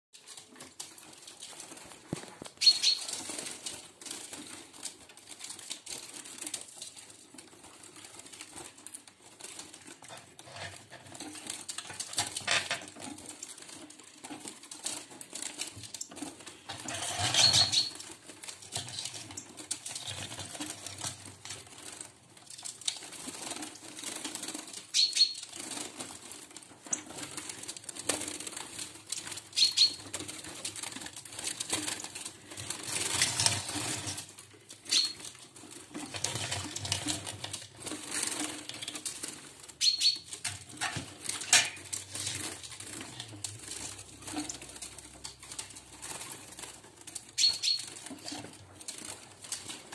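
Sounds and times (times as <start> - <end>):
birds fluttering: 0.2 - 49.9.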